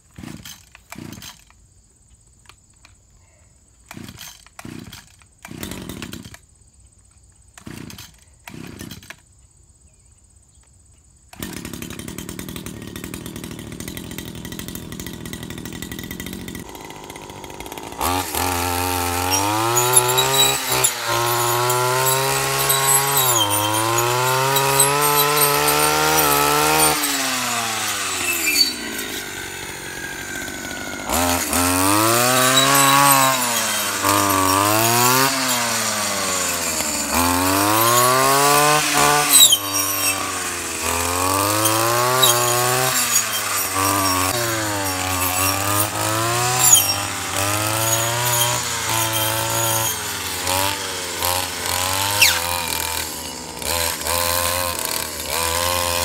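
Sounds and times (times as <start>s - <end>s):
brush trimmer engine idling and revving: 0.0s - 1.5s, 3.9s - 6.4s, 7.6s - 9.2s, 11.3s - 56.0s
starter rope pulls: 0.0s - 1.5s, 3.9s - 6.4s, 7.6s - 9.2s, 11.4s - 56.0s.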